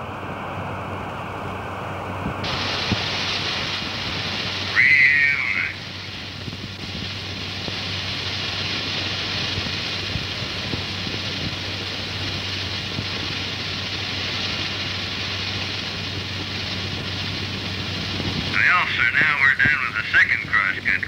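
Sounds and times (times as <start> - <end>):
constant low hum: 0.0 - 21.0
rushing aircraft noise: 0.0 - 21.0.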